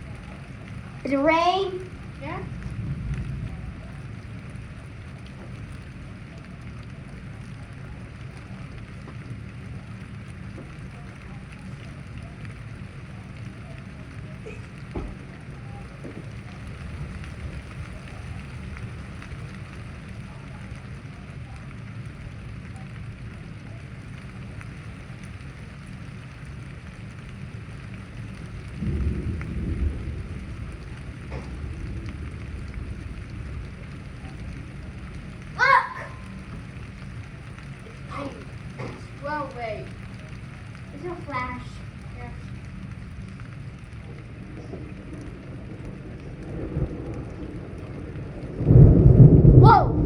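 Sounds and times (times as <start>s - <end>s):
low rumble of thunder: 0.0s - 50.0s
rain hissing: 0.0s - 50.0s.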